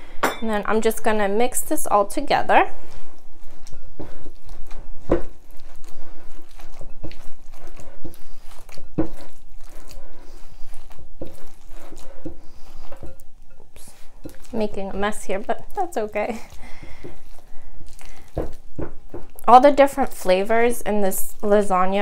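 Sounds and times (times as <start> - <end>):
spatula squelching wet mixture: 0.6 - 22.0.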